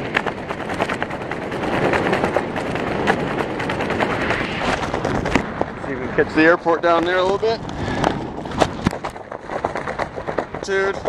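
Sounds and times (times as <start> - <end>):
rapid crackling pops: 0.0 - 11.0
wind buffeting microphone: 0.0 - 11.0.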